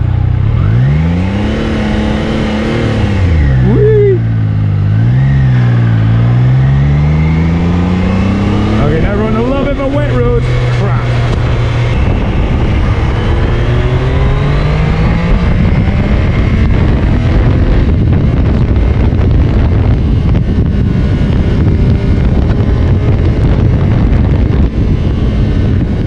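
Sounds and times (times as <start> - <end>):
motorcycle engine accelerating: 0.0 - 26.0
wind noise on microphone: 0.0 - 26.0.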